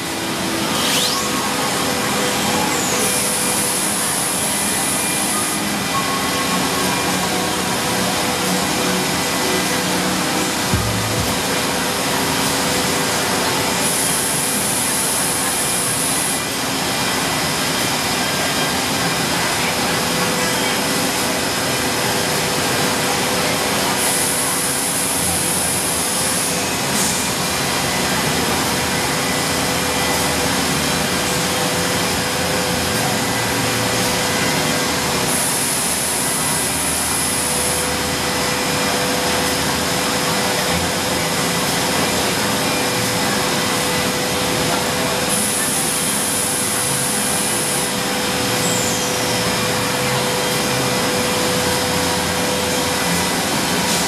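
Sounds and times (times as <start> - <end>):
cnc router whirring: 0.0 - 54.0.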